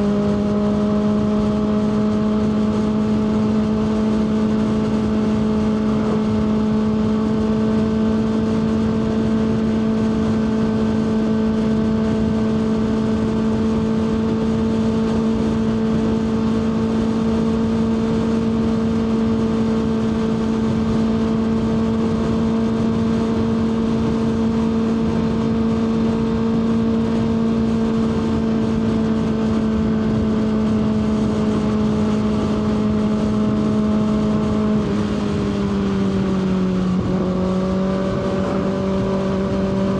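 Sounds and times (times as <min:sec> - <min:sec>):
motorcycle engine cruising: 0:00.0 - 0:39.9
road noise: 0:00.0 - 0:39.9
wind noise: 0:00.0 - 0:39.9.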